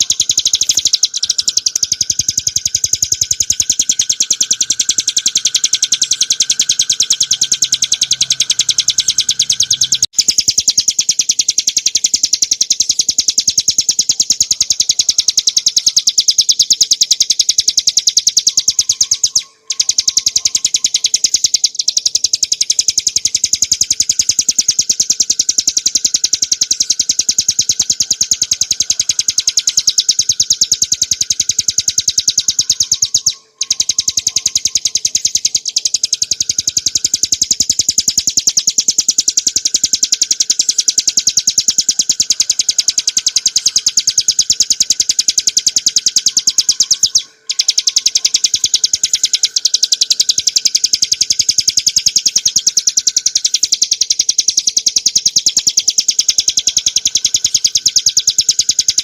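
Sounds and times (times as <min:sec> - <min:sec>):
bird singing rattling trill: 0:00.0 - 0:59.0.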